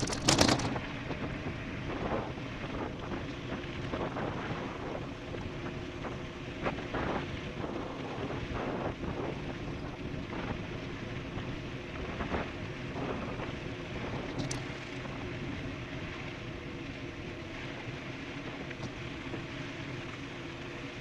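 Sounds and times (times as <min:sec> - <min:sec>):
e-bike riding at speed: 0:00.0 - 0:21.0
wind rush on microphone: 0:00.0 - 0:21.0.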